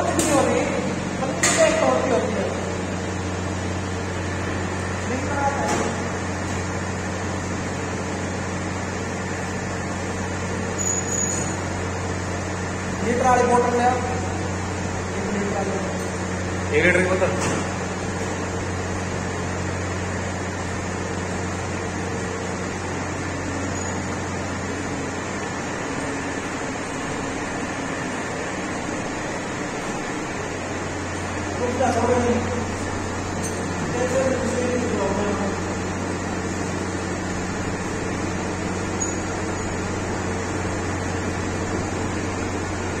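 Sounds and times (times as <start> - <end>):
hot-air blower whirring: 0.0 - 43.0
low electric hum: 0.0 - 43.0.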